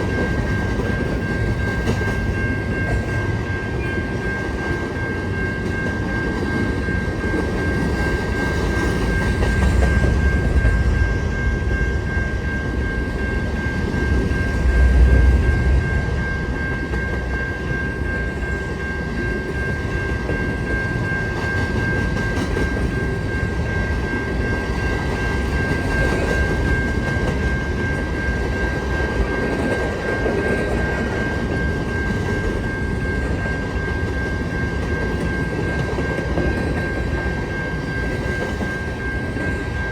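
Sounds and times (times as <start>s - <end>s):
high-pitched ringing tone: 0.0s - 39.9s
train wheels rumbling on rails: 0.0s - 39.9s.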